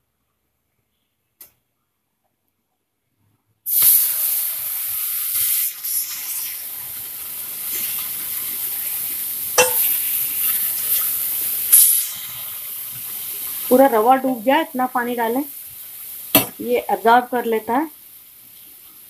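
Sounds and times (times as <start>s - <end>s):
water sizzling in hot pan: 3.7s - 19.0s.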